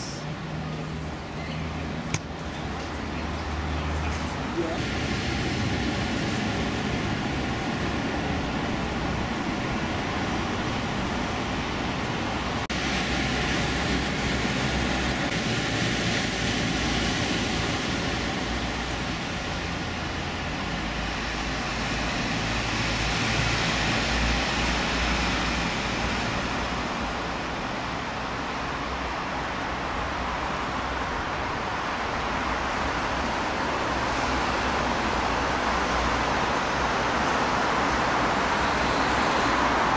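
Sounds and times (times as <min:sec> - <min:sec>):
road traffic hum: 0:00.0 - 0:39.9.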